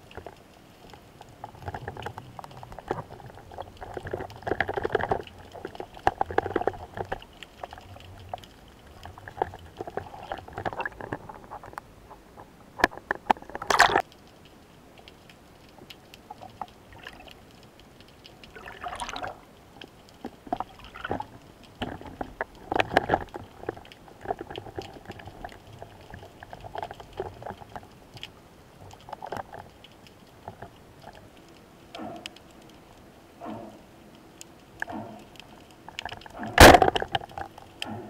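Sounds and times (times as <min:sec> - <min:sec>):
underwater clicks and knocks: 0:00.0 - 0:38.0
water swishes and gurgles: 0:00.0 - 0:38.0.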